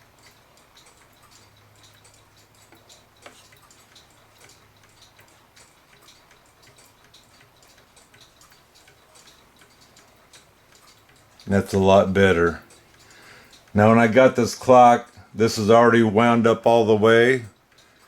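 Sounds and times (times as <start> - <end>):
clock ticking: 0.0 - 18.0.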